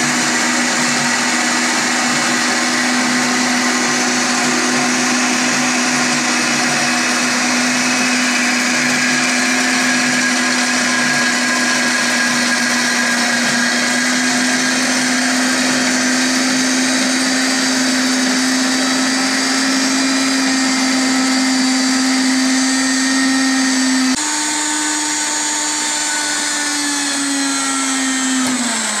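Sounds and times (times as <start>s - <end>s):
bandsaw cutting metal tubing: 0.0s - 29.0s.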